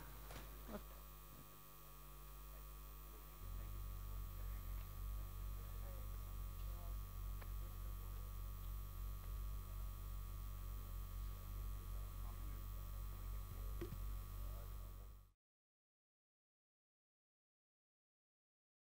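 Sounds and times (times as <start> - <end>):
electrical mains hum: 0.0 - 15.4.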